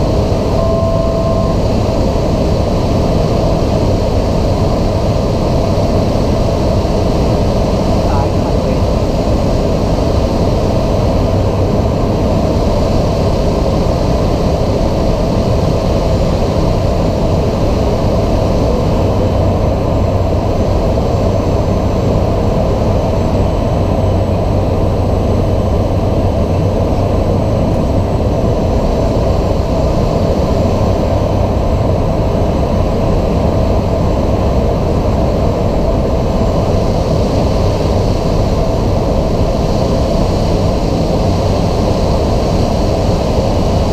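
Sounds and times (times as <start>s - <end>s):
turboprop engine drone: 0.0s - 43.9s.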